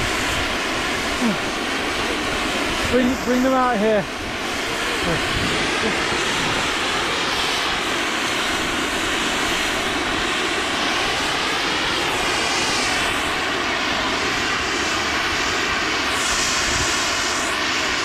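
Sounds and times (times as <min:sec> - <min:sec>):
snowmaking gun spraying hiss: 0:00.0 - 0:18.0.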